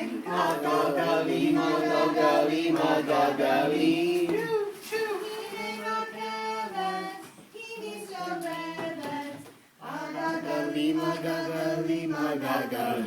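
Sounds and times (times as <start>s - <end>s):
group singing with children: 0.0s - 13.0s.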